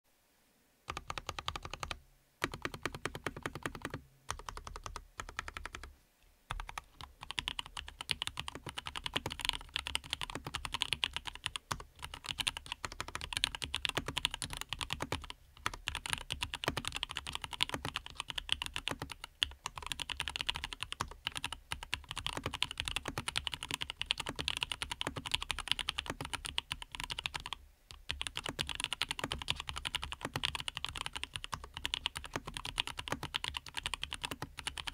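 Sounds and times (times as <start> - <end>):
mechanical keyboard typing: 0.9 - 5.9, 6.5 - 34.9.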